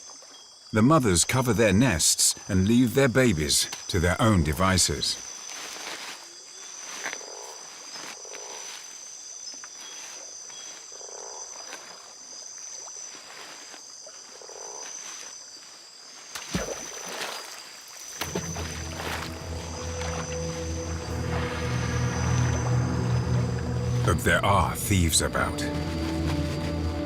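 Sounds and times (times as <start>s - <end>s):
frogs croaking: 0.0s - 27.0s
insects trilling: 0.0s - 27.0s.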